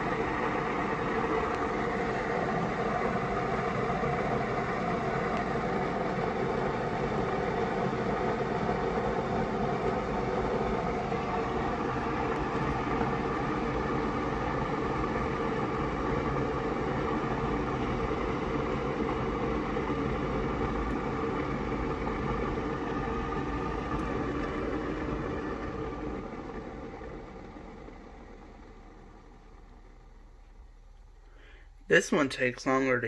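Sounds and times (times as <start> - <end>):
coffee maker rumbling hum: 0.0 - 33.0.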